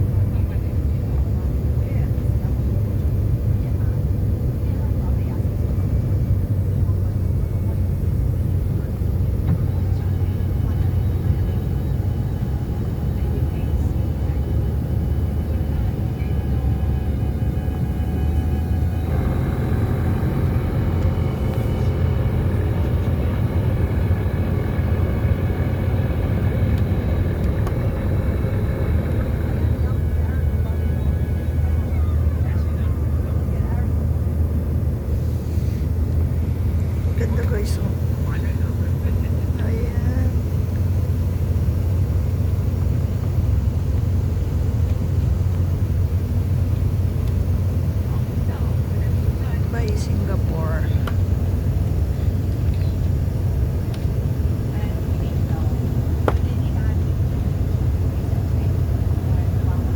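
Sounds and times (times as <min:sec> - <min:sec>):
jet engine drone inside cabin: 0:00.0 - 0:59.9.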